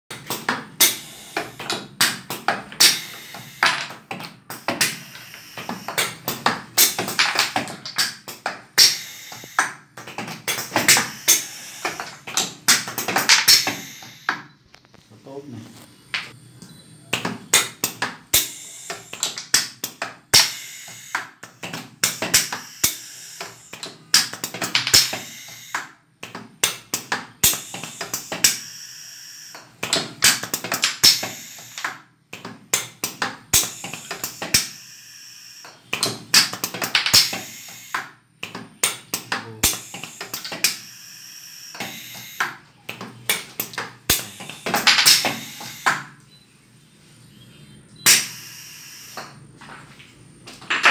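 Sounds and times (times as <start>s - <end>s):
pneumatic cylinders clacking: 0.1s - 14.5s, 17.1s - 28.9s, 29.5s - 46.1s, 48.0s - 49.5s.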